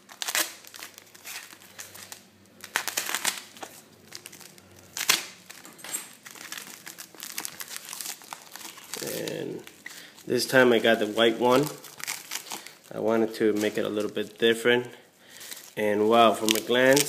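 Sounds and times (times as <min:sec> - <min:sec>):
plastic packaging tearing: 0:00.0 - 0:14.6, 0:15.4 - 0:17.0
plastic packaging crinkling: 0:00.0 - 0:17.0.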